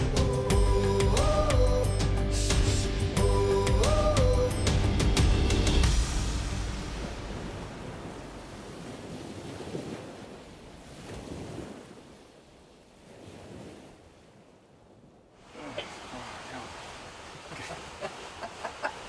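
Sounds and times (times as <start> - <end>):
wind and sea wash: 0.0 - 19.0.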